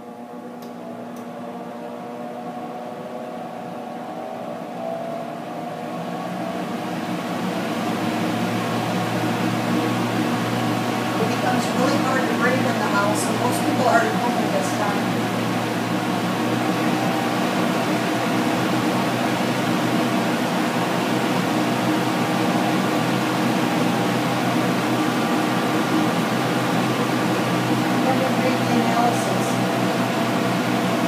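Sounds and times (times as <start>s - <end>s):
fan running with rushing air: 0.0s - 31.0s.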